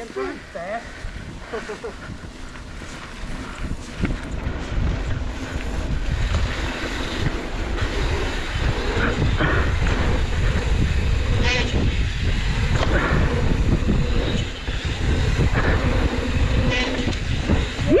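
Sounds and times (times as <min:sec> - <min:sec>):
bike rumbling and rattling: 0:00.0 - 0:18.0
wind buffeting microphone: 0:00.0 - 0:18.0.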